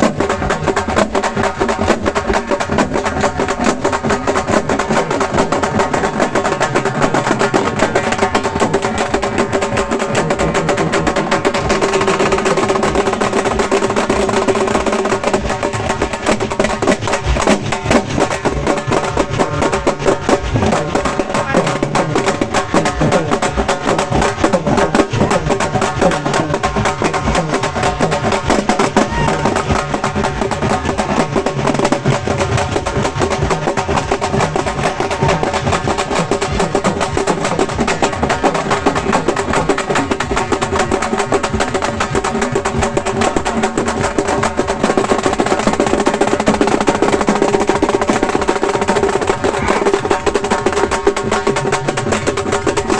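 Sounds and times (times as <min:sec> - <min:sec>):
frame drums beaten with sticks: 0:00.0 - 0:52.9.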